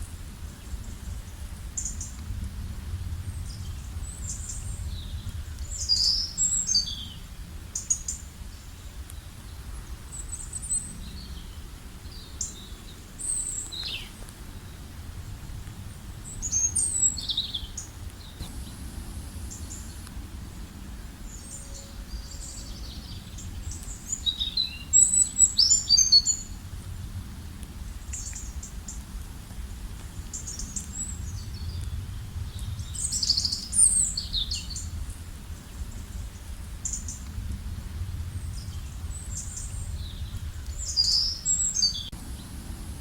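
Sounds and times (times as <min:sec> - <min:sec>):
songbirds singing and chirping: 0:00.0 - 0:26.7, 0:27.6 - 0:43.0
low wind rumble: 0:00.0 - 0:43.0.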